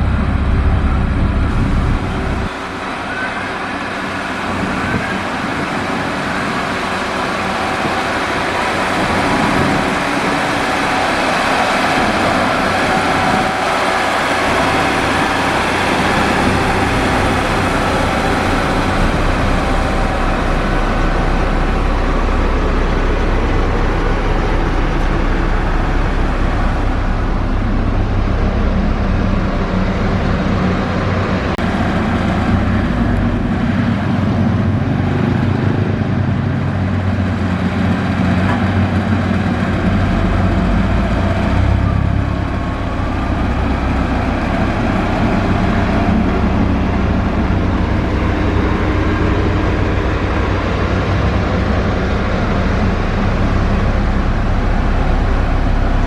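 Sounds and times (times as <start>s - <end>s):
diesel construction machinery rumbling: 0.0s - 56.0s.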